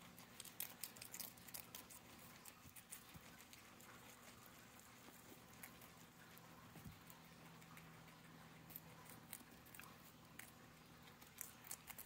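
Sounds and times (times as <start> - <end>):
guinea pigs chewing: 0.0 - 12.0.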